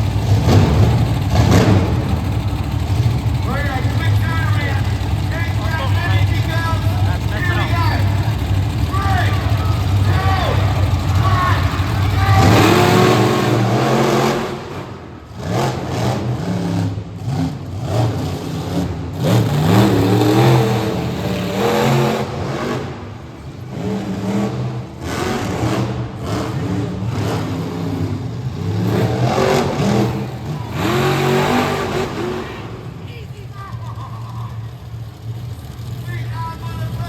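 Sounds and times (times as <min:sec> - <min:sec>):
monster truck engines revving: 0:00.0 - 0:37.0.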